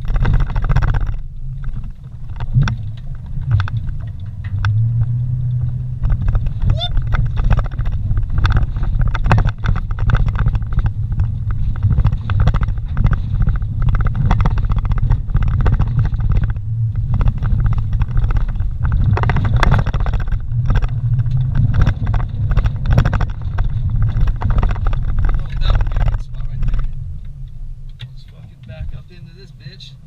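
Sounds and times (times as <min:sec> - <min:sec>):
knocks and rattles from bumps: 0:00.0 - 0:29.1
vehicle engine and tyre rumble: 0:00.0 - 0:30.0.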